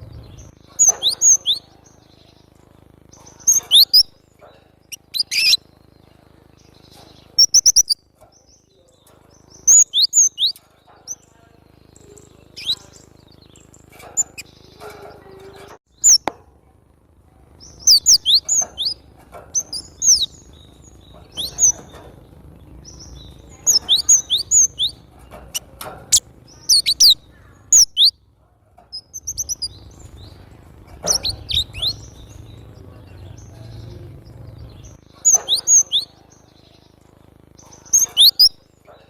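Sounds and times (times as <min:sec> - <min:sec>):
bird singing high chirps: 0:00.0 - 0:16.3, 0:17.6 - 0:28.3, 0:28.9 - 0:39.0
faint low hum: 0:00.0 - 0:39.0.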